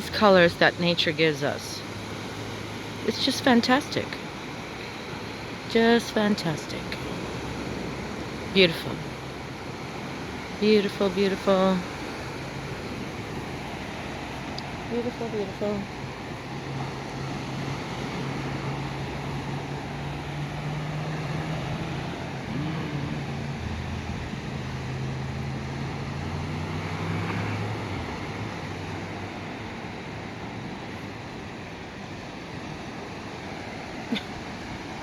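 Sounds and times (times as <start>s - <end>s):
low engine drone: 0.0s - 31.2s
surf: 0.0s - 35.0s
wind: 0.0s - 35.0s.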